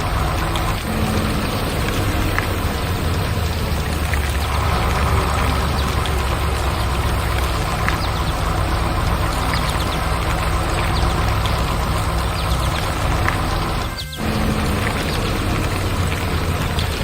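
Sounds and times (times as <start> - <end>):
heavy engine rumbling: 0.0 - 17.0
hiss: 0.0 - 17.0
light ticks: 0.0 - 17.0.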